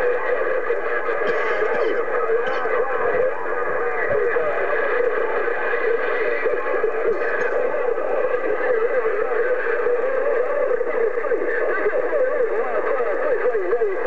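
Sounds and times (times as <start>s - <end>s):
garbled radio voices: 0.0s - 14.0s
radio static noise: 0.0s - 14.0s.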